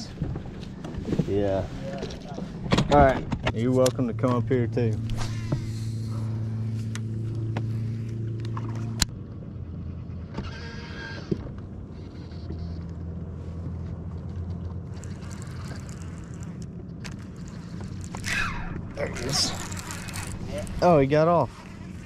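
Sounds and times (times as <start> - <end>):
electric trolling motor humming: 3.9 - 22.0.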